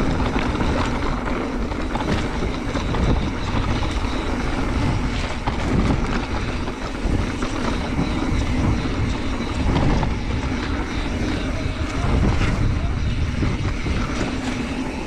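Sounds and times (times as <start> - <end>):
bike tyre noise on dirt: 0.0 - 15.0
wind rumble on microphone: 0.0 - 15.0.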